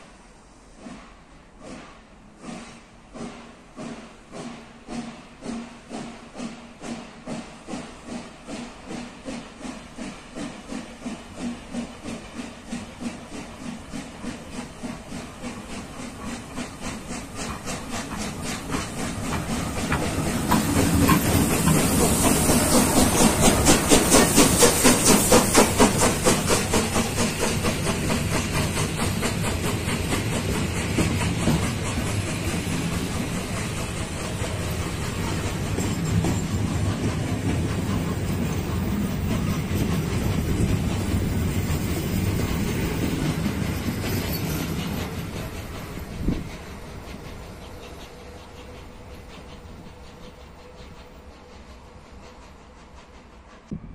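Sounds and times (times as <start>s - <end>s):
steam hissing: 0.0s - 53.9s
steam locomotive chuffing: 0.0s - 53.9s
train wheels clattering on rails: 0.7s - 53.9s.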